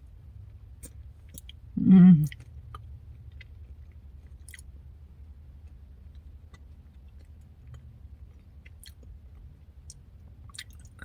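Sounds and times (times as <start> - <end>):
soft chewing: 0.4 - 11.0.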